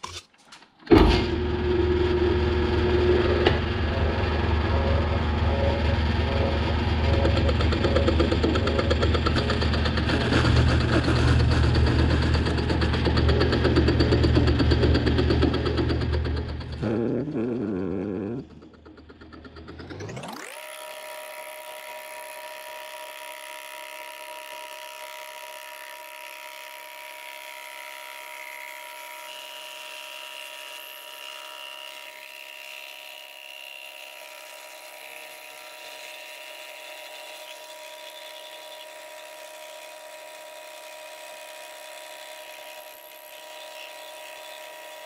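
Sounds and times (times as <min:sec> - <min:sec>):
milling machine whining: 0:00.9 - 0:45.0.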